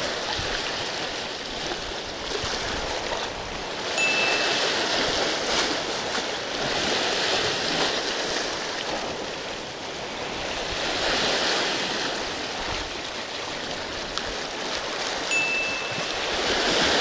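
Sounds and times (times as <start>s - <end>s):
surf breaking over rocks: 2.4s - 17.0s.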